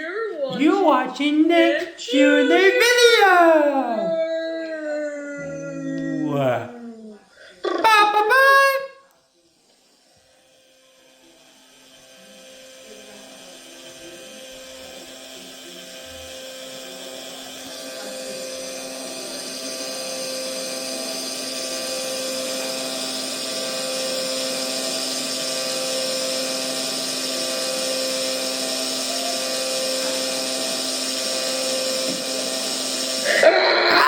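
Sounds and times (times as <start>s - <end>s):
mechanical hum with fixed tones: 0.0s - 34.0s.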